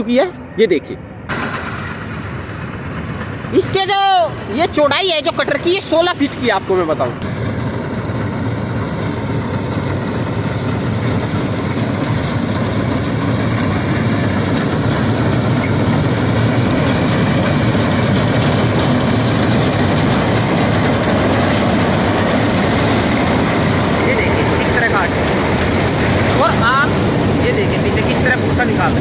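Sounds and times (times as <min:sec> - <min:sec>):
combine harvester running: 0:01.0 - 0:29.0.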